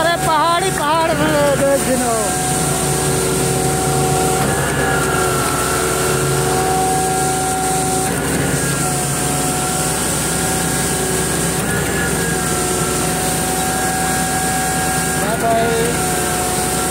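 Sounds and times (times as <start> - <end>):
diesel engine rumbling: 0.0 - 16.9
steady whine: 0.0 - 16.9.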